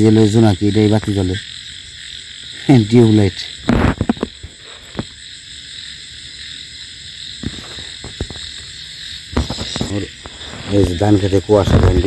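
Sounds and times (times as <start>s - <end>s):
frogs and insects trilling: 0.0s - 12.0s.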